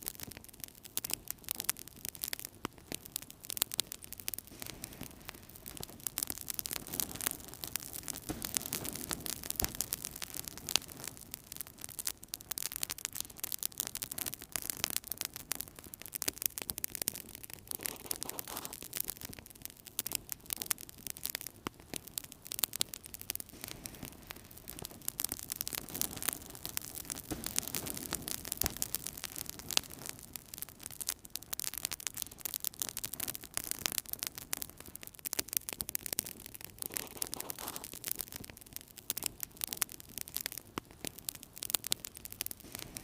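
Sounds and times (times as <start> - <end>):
fire crackling in fireplace: 0.0 - 43.0.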